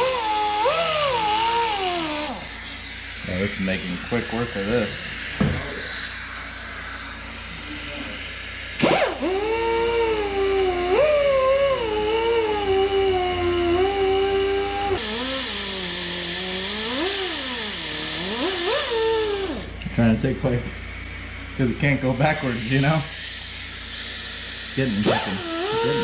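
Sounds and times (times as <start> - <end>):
rotary grinder whining: 0.0 - 19.8, 20.8 - 26.0.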